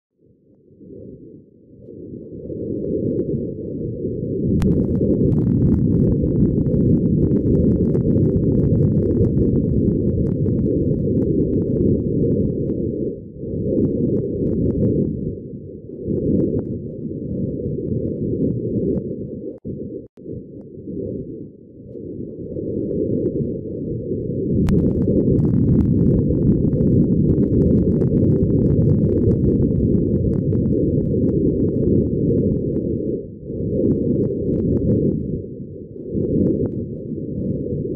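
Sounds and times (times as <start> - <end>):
low rumbling noise: 0.6 - 37.9
faint crackles: 1.8 - 35.3.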